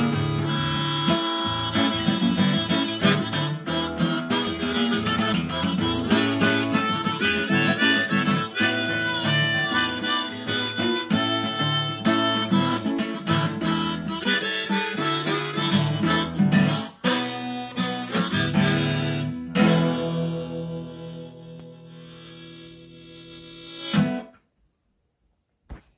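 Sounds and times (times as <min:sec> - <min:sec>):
harmonica playing: 0:00.0 - 0:24.3
strummed acoustic guitar: 0:00.0 - 0:24.4.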